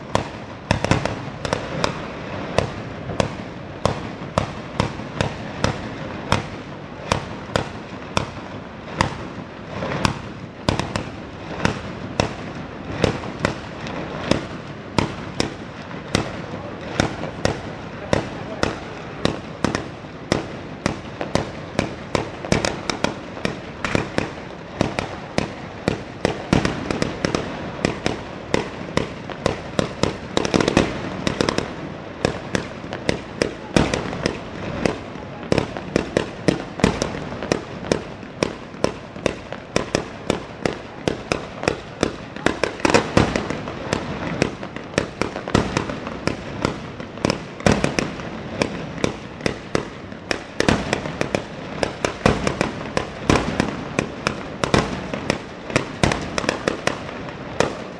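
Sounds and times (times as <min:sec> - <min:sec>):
rapid firework mortar bangs: 0:00.0 - 0:57.9.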